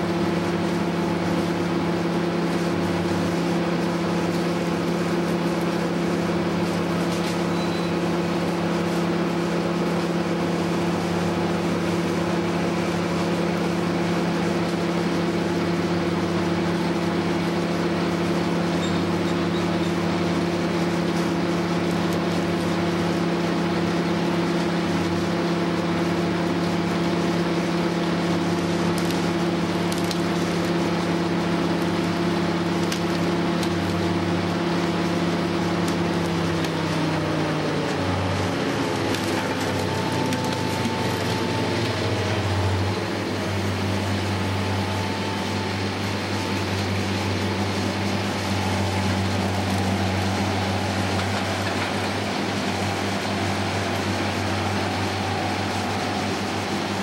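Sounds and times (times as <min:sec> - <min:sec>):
wood chipper running: 0:00.0 - 0:57.0
wood crackling in chipper: 0:00.0 - 0:57.0.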